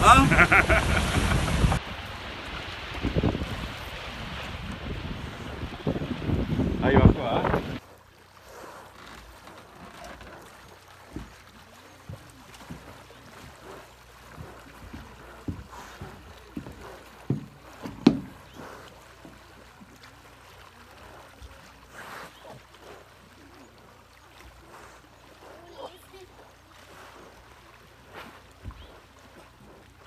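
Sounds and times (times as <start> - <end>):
water lapping against boat hull: 0.0 - 30.0.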